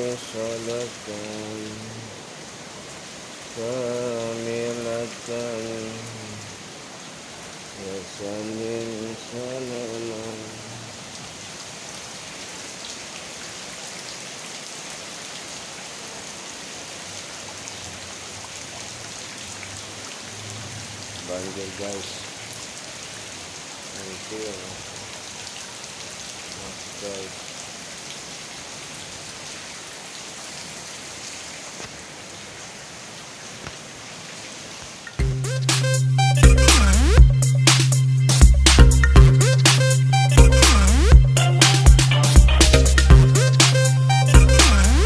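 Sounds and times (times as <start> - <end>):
rain pattering: 0.0 - 45.0.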